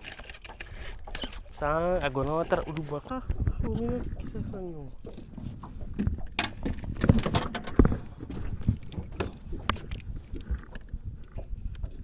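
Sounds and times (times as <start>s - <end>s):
knocks and thumps in small boat: 0.0s - 12.0s.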